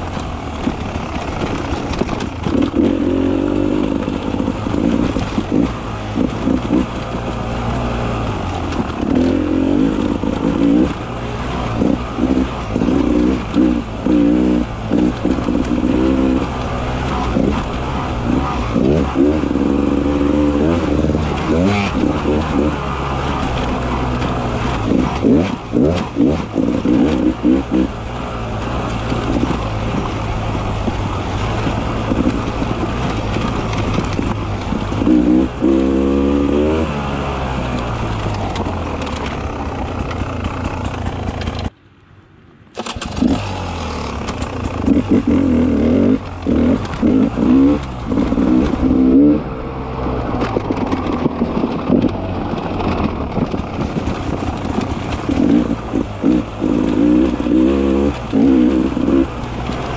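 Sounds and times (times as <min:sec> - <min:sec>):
motorcycle engine revving: 0:00.0 - 0:41.8, 0:42.8 - 0:59.9.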